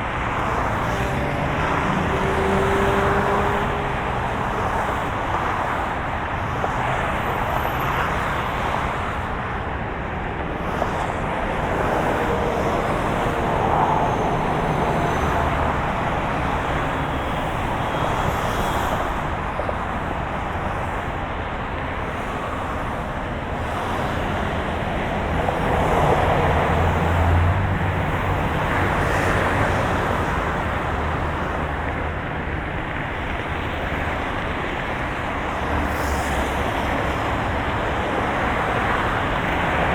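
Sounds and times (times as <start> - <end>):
cars passing: 0.0 - 39.9.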